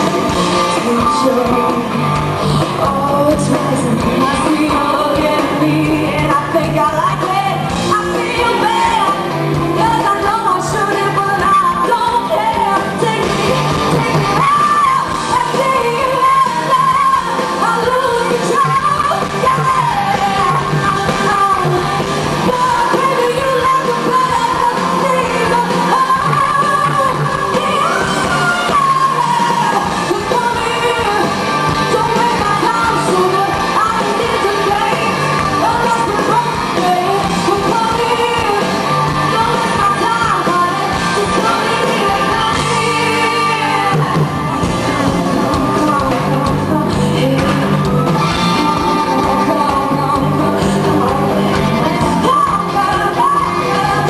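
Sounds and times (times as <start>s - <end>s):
electric guitar: 0.0s - 54.0s
live rock band: 0.0s - 54.0s
woman singing: 0.0s - 54.0s.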